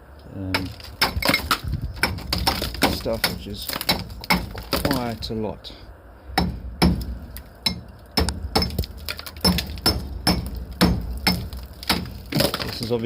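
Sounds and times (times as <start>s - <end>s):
hammer striking concrete: 0.6s - 5.0s, 6.4s - 12.7s.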